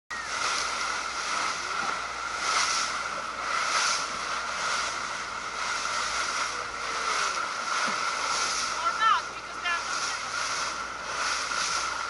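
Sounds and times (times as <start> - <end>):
boat engine hum: 0.1 - 12.0
water rushing along a hull: 0.1 - 12.0
spray hissing: 0.2 - 12.0.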